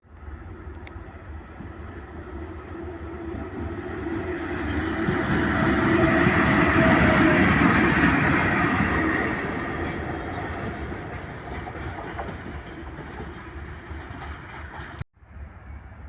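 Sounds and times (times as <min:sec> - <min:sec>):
train wheels rumbling on rails: 0:00.1 - 0:16.0.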